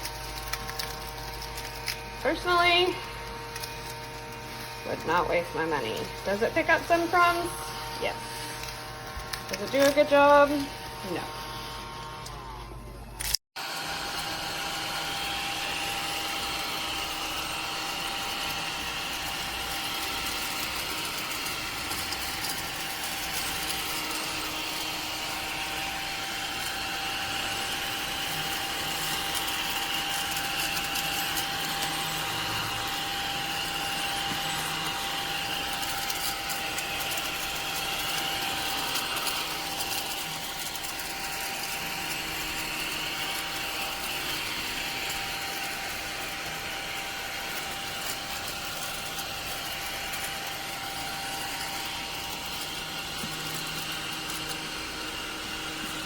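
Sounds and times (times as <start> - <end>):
small vacuum cleaner motor whine: 0.0 - 56.0.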